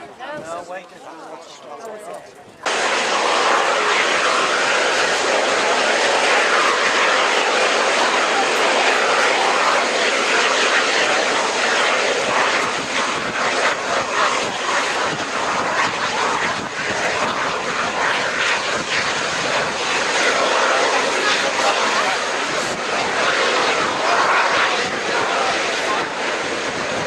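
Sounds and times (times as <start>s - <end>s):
jet engines running: 2.6s - 27.0s.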